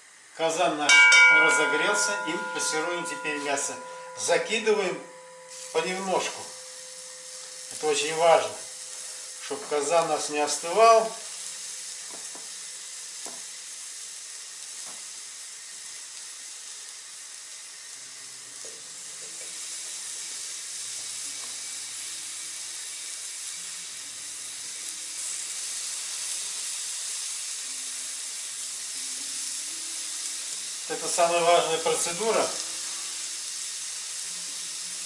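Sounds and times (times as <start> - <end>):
meat sizzling in a pot: 0.0 - 35.0.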